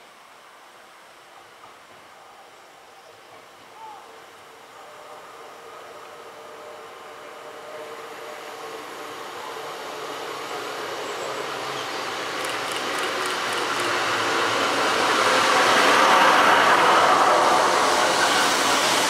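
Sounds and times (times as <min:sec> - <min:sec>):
train engines and wheels rumbling: 0:00.0 - 0:19.0.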